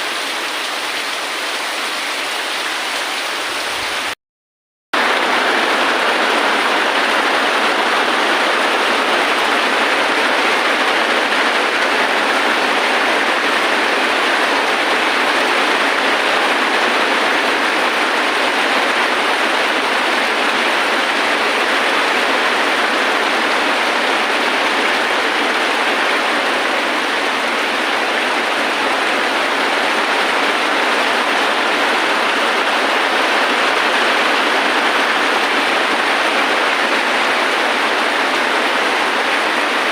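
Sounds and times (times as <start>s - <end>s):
heavy rain: 0.0s - 4.2s, 5.0s - 39.9s.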